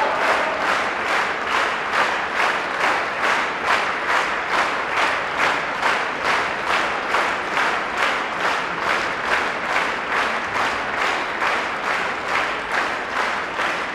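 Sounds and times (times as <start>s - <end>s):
audience clapping in unison: 0.0s - 13.9s.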